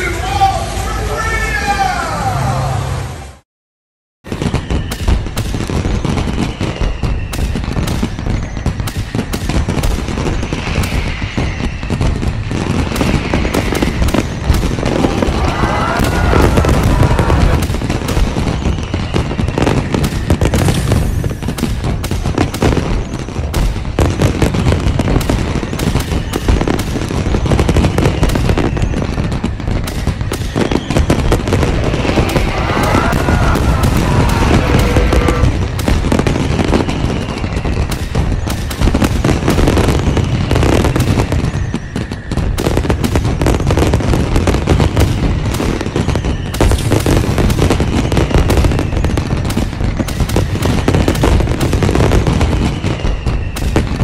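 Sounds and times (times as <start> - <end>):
fireworks bangs and crackling: 0.0 - 2.0, 4.2 - 54.0.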